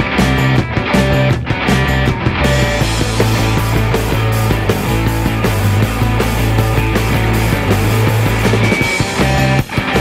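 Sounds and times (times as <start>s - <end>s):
instrumental music with heavy bass: 0.0s - 10.0s.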